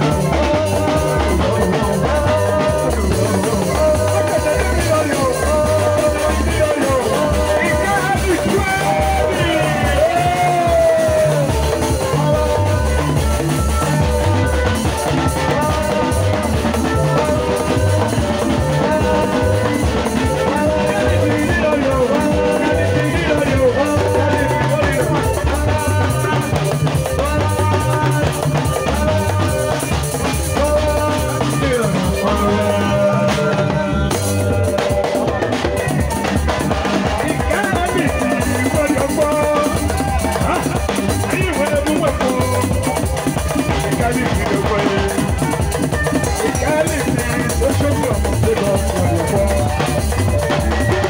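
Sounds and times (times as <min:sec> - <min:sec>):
bass and guitar lines: 0:00.0 - 0:51.0
drum kit steady beat: 0:00.0 - 0:51.0.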